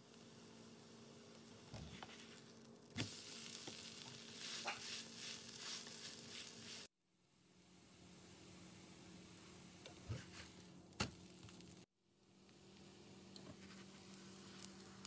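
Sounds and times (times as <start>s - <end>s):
pancake sizzling in oil: 0.0s - 6.9s, 9.0s - 15.0s.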